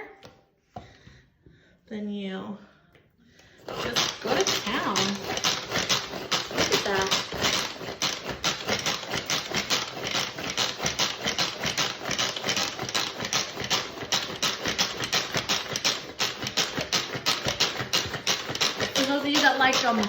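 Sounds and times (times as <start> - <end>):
plastic food processor clattering: 3.6 - 20.0.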